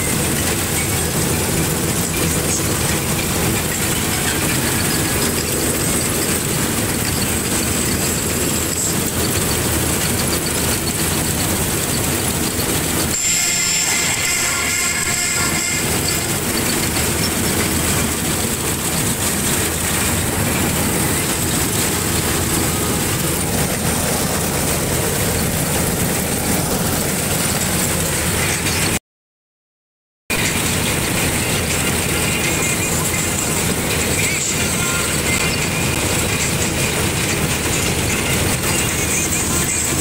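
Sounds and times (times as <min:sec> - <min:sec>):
combine harvester engine: 0:00.0 - 0:29.0, 0:30.3 - 0:40.0.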